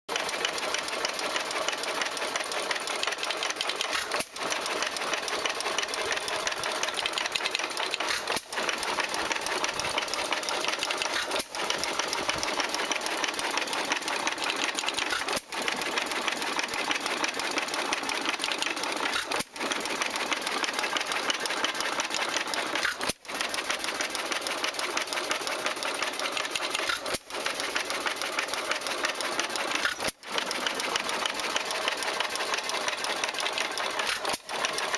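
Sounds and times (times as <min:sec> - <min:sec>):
gas engine clattering: 0:00.1 - 0:34.9.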